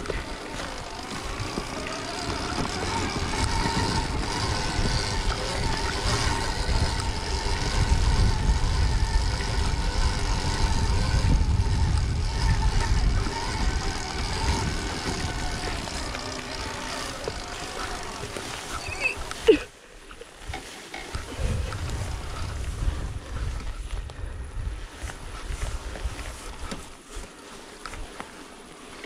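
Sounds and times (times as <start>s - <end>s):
electric motorbike whine: 0.0s - 19.6s, 20.6s - 26.8s
wind rumble on microphone: 0.0s - 19.7s, 20.4s - 27.3s.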